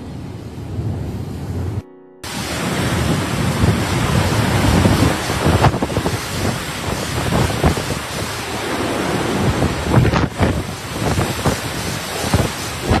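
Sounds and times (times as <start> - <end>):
rushing wind: 0.0 - 13.0
water splashing: 2.3 - 13.0.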